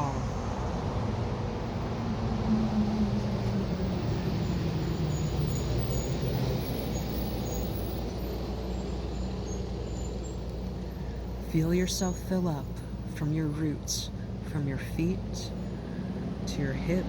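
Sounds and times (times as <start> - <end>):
passing vehicle engine rumble: 0.0 - 17.0.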